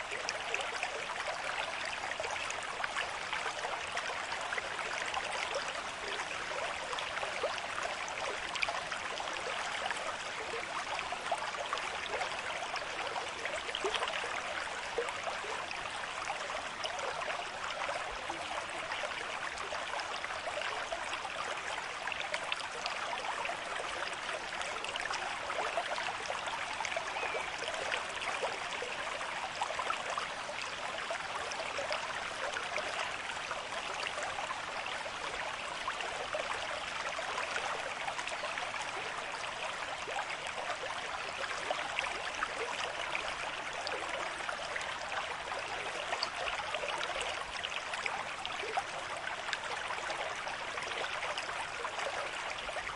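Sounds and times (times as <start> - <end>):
stream babbling over stones: 0.0 - 52.9.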